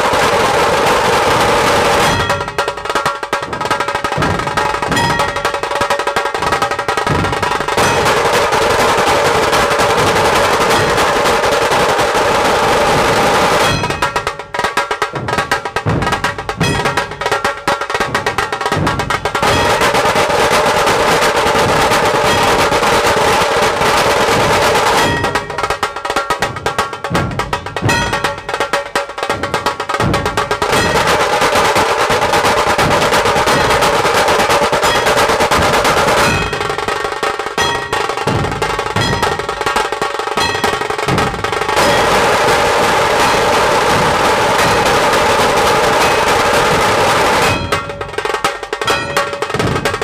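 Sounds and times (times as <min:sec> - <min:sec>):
drum ensemble playing loudly: 0:00.0 - 0:50.0.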